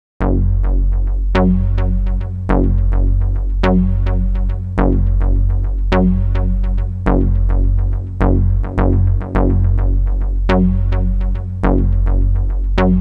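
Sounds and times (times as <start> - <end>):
deep bass line: 0.2 - 13.0
synth notes: 0.2 - 13.0.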